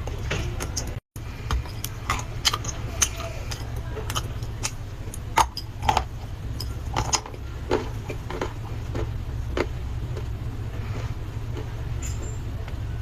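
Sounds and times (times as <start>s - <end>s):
steady low hum: 0.0s - 13.0s
dry clay crunching and cracking: 0.1s - 12.9s.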